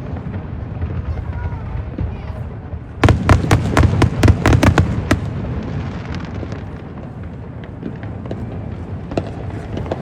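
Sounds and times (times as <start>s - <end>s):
faint crackles and pops: 0.0s - 10.0s
fireworks bangs: 0.0s - 10.0s.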